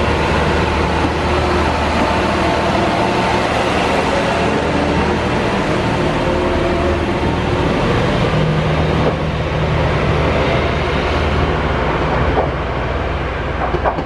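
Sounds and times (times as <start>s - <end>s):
diesel railcar engine: 0.0s - 14.0s.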